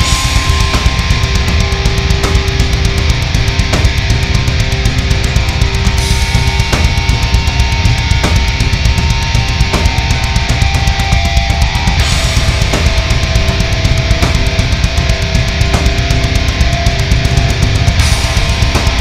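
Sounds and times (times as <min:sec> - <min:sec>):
heavy metal music: 0:00.0 - 0:19.0.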